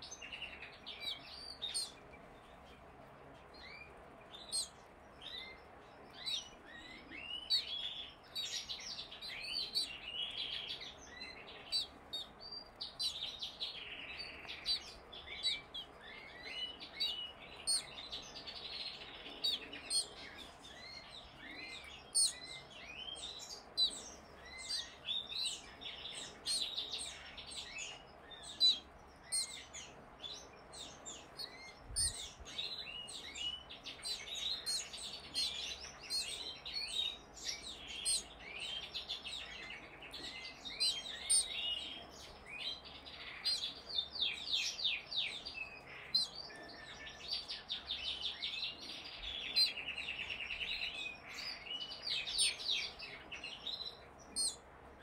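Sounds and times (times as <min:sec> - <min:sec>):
canary chirping: 0:00.0 - 0:55.0.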